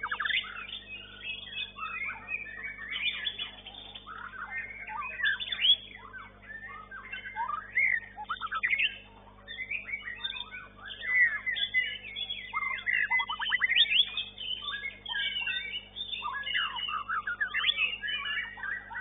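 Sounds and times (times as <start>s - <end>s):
bird singing whistles and trills: 0.0s - 19.0s.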